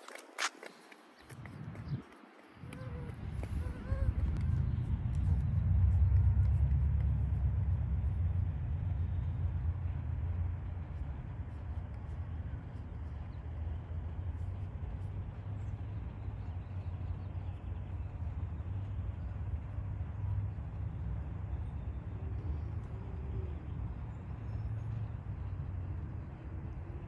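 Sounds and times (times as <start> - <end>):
low outdoor rumble: 1.4 - 27.0.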